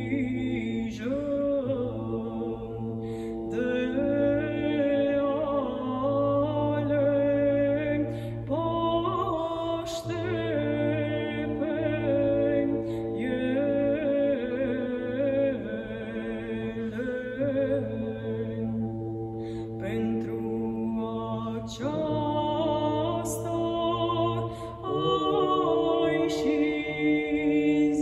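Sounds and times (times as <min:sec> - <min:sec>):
woman singing chant: 0:00.0 - 0:18.8, 0:19.8 - 0:28.0.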